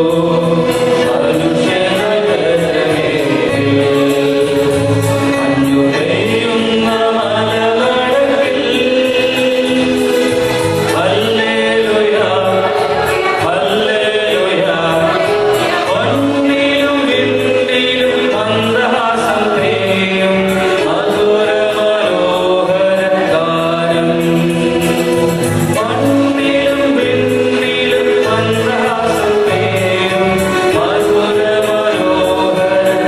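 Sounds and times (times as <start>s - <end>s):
mixed choir singing carol: 0.0s - 33.0s.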